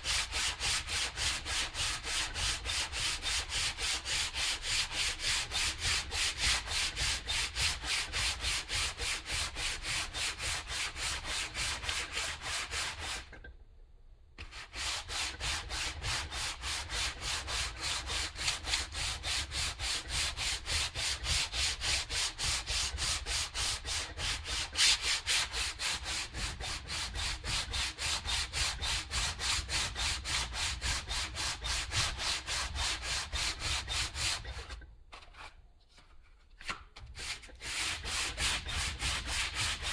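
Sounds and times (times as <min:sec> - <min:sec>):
hand sanding wood: 0:00.0 - 0:13.4, 0:14.4 - 0:34.8, 0:37.0 - 0:39.9.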